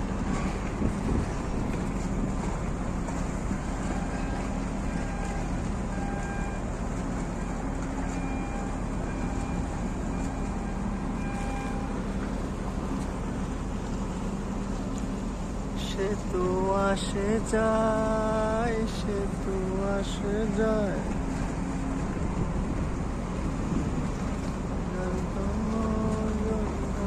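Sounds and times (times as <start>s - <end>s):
marine engine droning: 0.0s - 27.0s.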